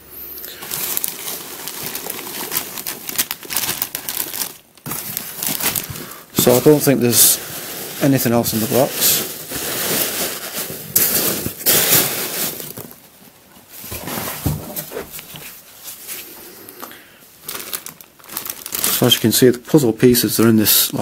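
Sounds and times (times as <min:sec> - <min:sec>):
packing peanuts rustling: 0:00.5 - 0:16.2, 0:17.3 - 0:21.0
plastic bag rustling: 0:00.5 - 0:16.4, 0:17.2 - 0:21.0.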